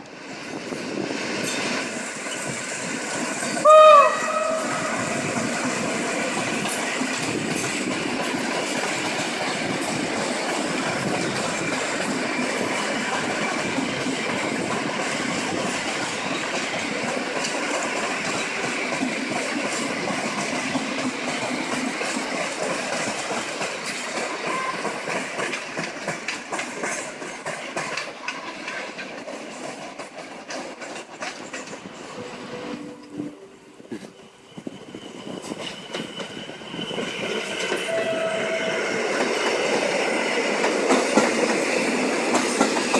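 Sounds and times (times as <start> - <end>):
passenger train rumbling past: 0.0 - 42.9
wheels clicking over rail joints: 0.9 - 32.4, 38.6 - 42.9.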